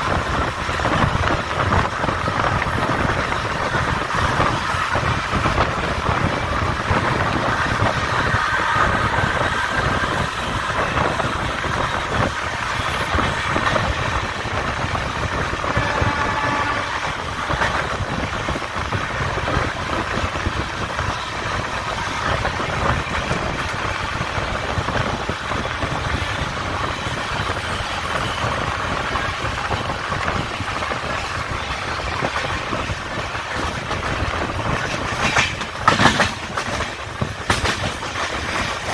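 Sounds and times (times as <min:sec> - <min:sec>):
train wheels on track: 0:00.0 - 0:38.9.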